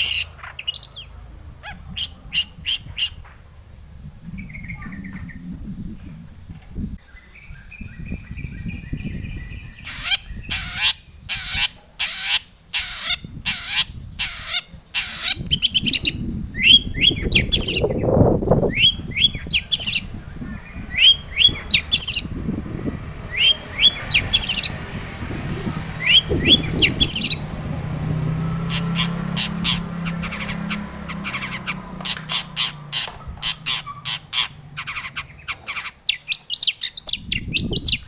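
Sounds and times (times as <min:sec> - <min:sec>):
bird singing: 0:00.0 - 0:38.0.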